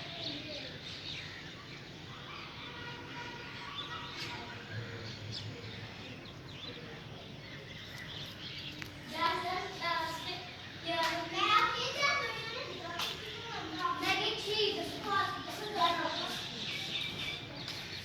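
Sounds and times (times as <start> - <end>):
children's voices: 0.0 - 6.7, 8.0 - 18.0
faint distant voices: 0.0 - 18.0
outdoor background noise: 0.0 - 18.0
small birds chirping: 0.0 - 18.0.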